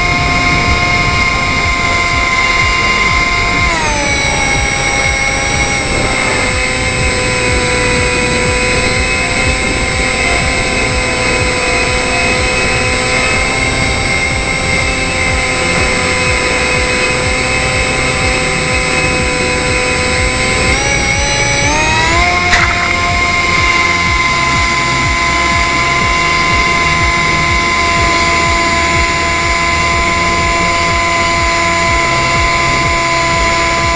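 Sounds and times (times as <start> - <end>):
electric motor and propeller whine: 0.0 - 33.9
wind noise: 0.0 - 33.9.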